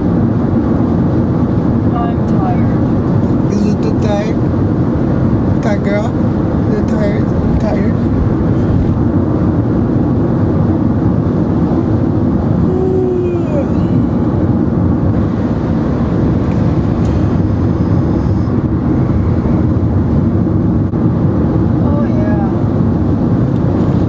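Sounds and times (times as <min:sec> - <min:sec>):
car interior road and engine rumble: 0:00.0 - 0:24.0.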